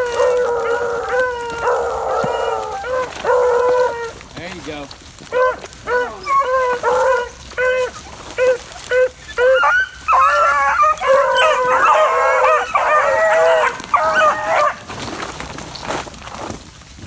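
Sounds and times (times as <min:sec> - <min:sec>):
hounds baying: 0:00.0 - 0:04.3, 0:05.2 - 0:14.9.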